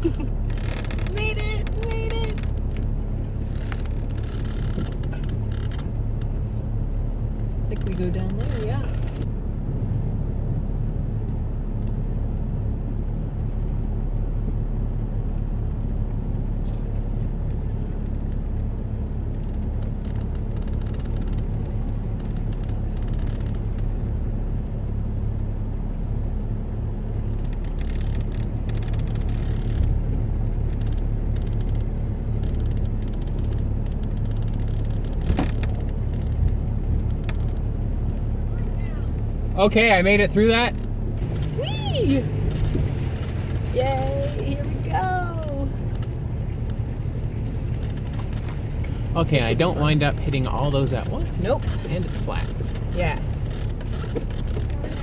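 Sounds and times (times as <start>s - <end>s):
car engine low drone: 0.0s - 55.0s.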